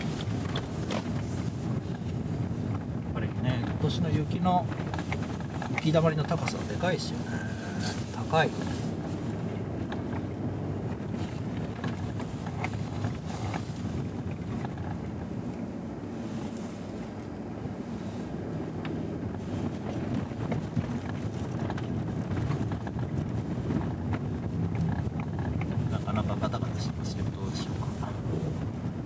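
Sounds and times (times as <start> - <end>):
knocks and rattles over bumps: 0.0 - 15.5, 18.7 - 29.0
car tyre and engine noise: 0.0 - 29.0
wind on microphone: 0.0 - 29.0.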